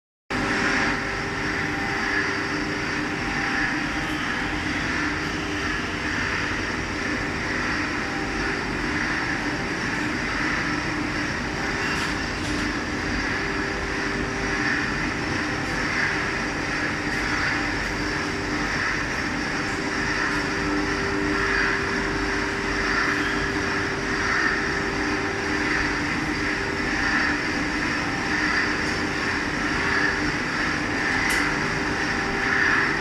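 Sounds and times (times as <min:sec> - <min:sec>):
milling machine humming and whining: 0:00.3 - 0:33.0.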